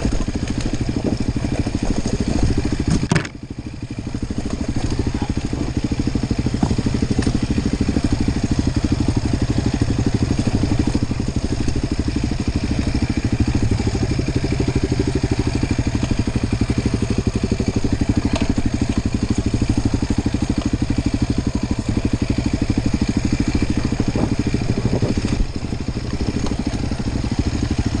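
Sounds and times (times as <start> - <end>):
dirt bike engine idling: 0.0 - 28.0.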